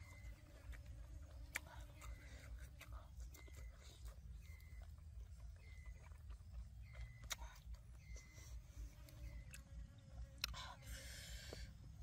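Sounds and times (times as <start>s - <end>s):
person chewing crunchy food: 0.0s - 11.7s.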